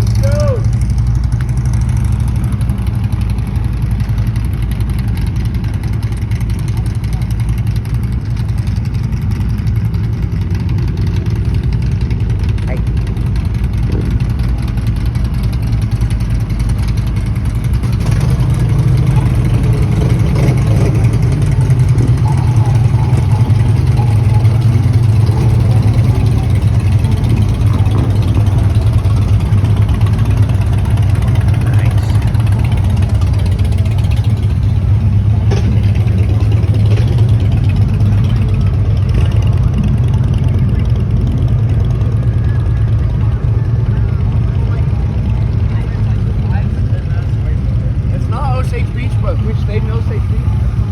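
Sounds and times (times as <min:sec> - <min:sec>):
boat engine humming: 0:00.0 - 0:50.9.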